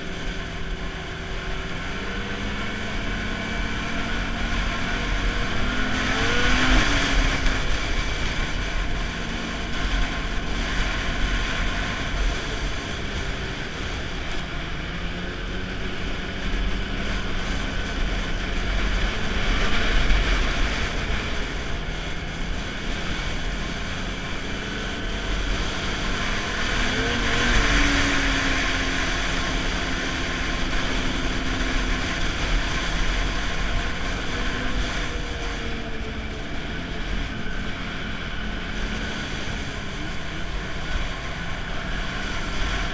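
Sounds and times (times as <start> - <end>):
snowmobile engine running: 0.0 - 42.9.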